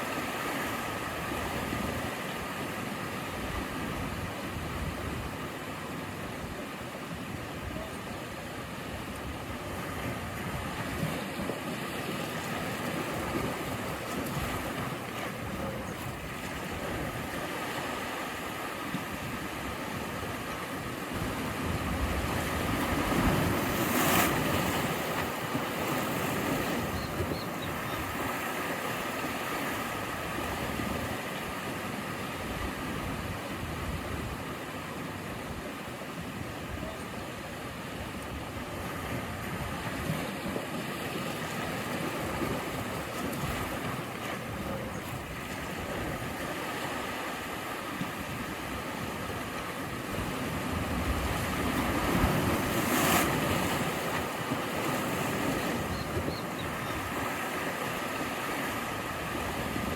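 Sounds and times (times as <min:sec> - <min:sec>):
waves washing on shore: 0:00.0 - 0:59.9.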